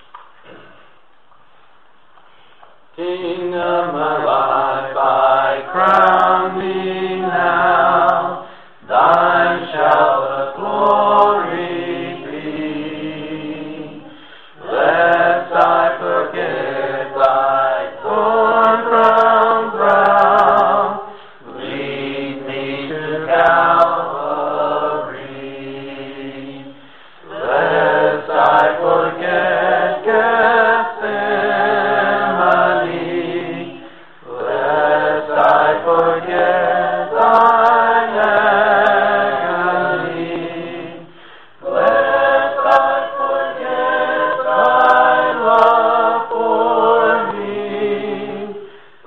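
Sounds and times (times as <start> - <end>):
group singing a hymn: 2.4 - 49.0.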